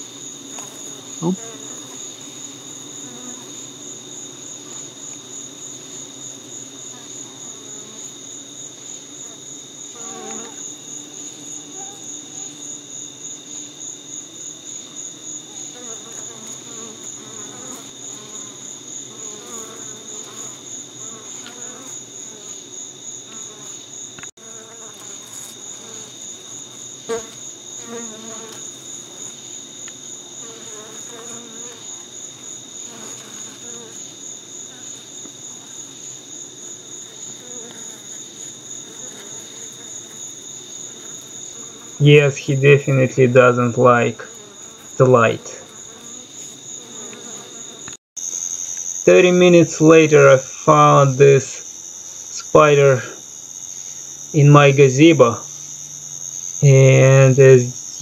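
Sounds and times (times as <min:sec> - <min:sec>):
crickets chirping: 0:00.0 - 0:58.0
honeybees humming: 0:00.0 - 0:58.0.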